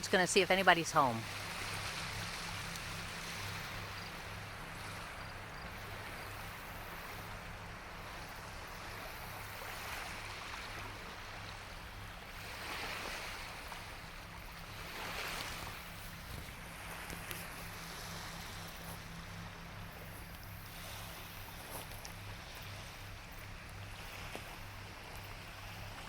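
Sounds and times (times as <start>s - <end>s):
waves washing onto shore: 0.0s - 26.0s.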